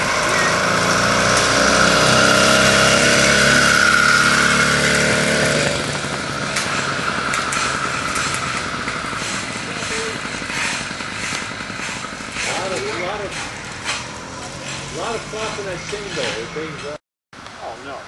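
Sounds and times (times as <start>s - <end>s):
motorized bicycle passing by: 0.0s - 16.9s.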